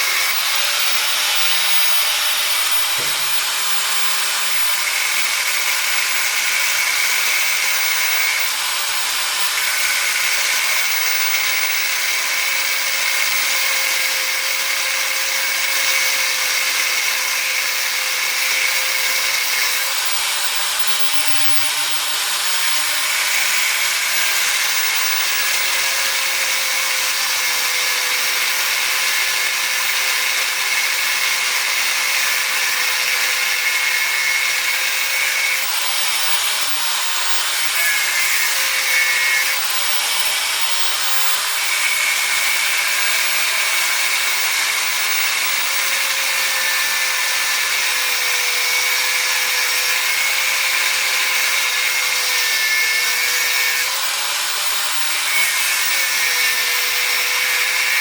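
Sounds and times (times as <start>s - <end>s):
angle grinder cutting metal: 0.0s - 58.0s.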